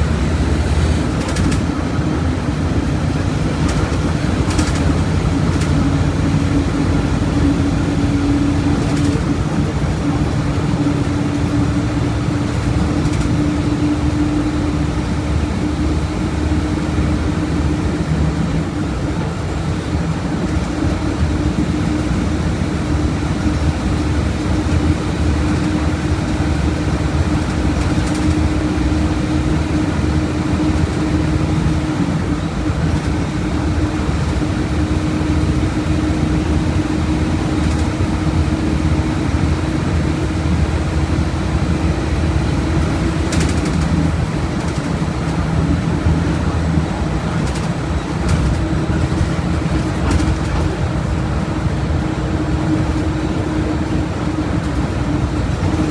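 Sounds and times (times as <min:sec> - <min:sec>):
diesel bus engine running: 0:00.0 - 0:55.9.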